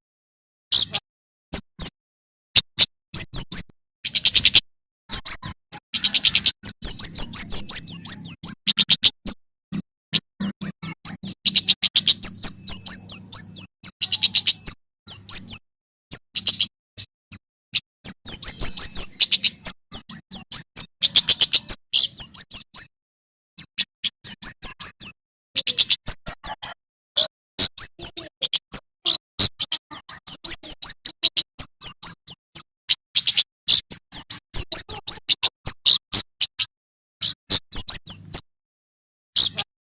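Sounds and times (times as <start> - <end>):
bird singing high chirps: 0.7 - 2.0, 2.6 - 22.9, 23.6 - 38.5, 39.3 - 39.7.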